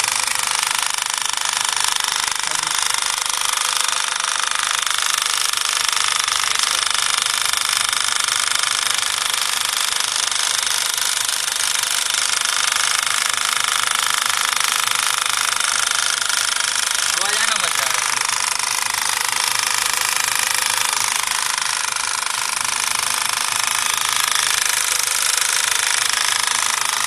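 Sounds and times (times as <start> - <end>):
high-pitched rattling tick: 0.0 - 27.0.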